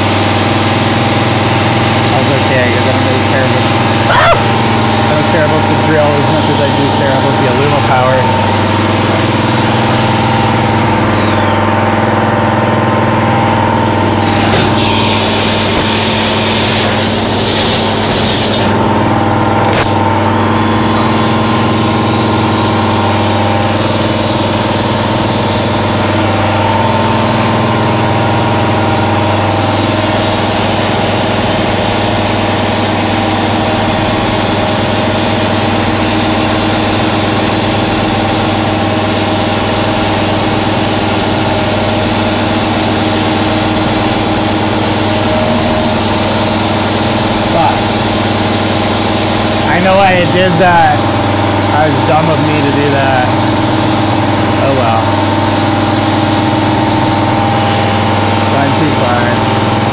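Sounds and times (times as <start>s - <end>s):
coolant spray hissing: 0.1s - 12.0s, 14.7s - 18.7s, 19.7s - 59.9s
machine tones: 1.3s - 59.9s
air blow gun hiss: 4.5s - 11.8s, 14.7s - 18.7s, 19.7s - 59.9s.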